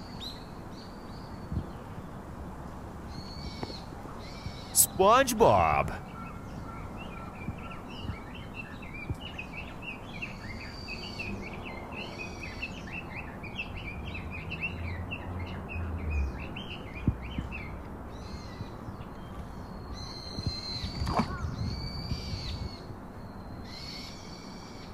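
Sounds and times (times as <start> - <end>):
low background noise: 0.0 - 20.9
birds chirping: 3.1 - 24.0.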